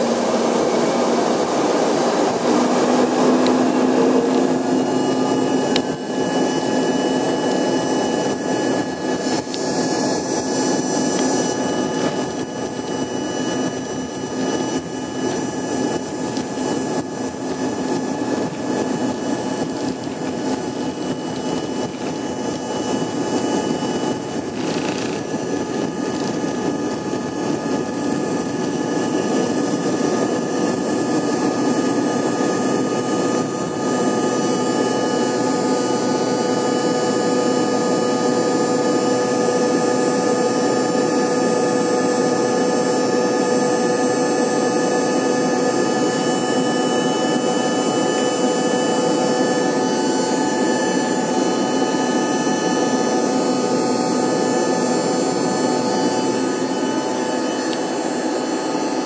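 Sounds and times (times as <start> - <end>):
jet engine roaring with whine: 0.0 - 59.0.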